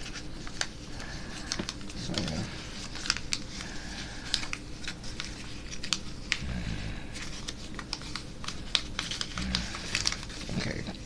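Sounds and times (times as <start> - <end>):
paper being folded and creased: 0.0 - 6.4, 7.1 - 11.0.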